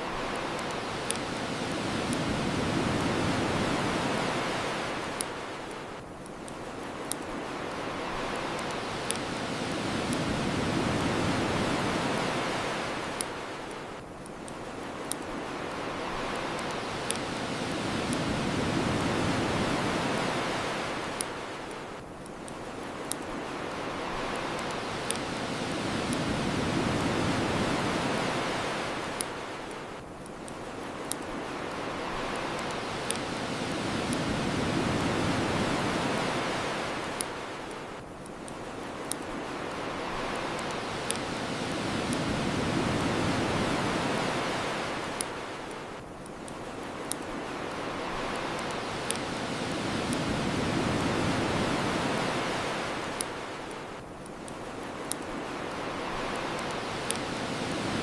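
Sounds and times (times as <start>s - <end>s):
bonfire crackling and popping: 0.0s - 58.0s
ocean waves washing ashore: 0.0s - 58.0s.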